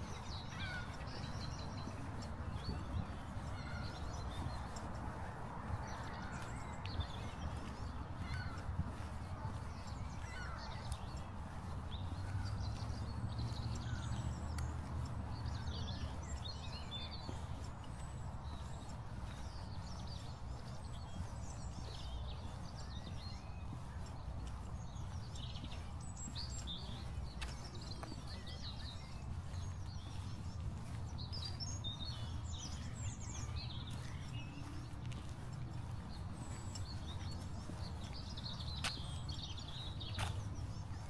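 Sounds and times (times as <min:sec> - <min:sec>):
songbirds chirping and twittering: 0:00.0 - 0:41.0.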